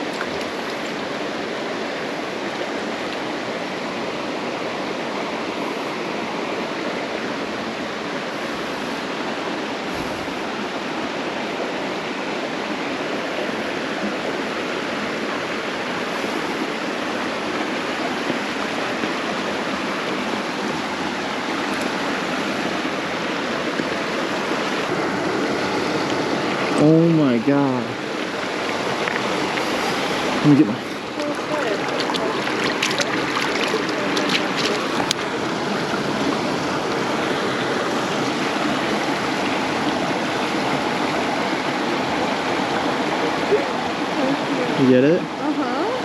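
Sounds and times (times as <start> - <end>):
creek water flowing: 0.0 - 46.0.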